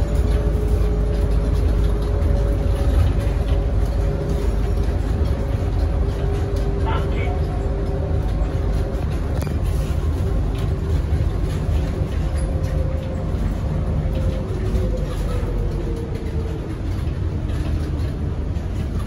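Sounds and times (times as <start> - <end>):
people mover cabin rumble: 0.0 - 19.0.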